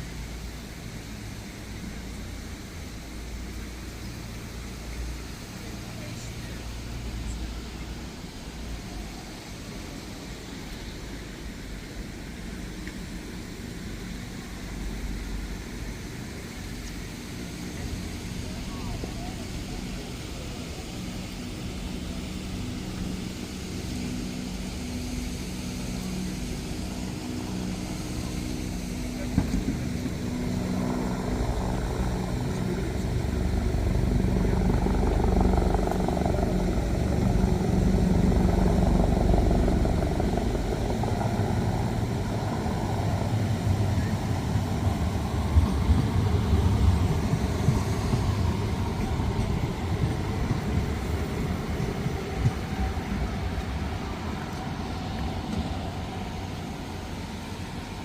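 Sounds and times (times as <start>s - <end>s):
traffic passing close by: 0.0s - 58.0s.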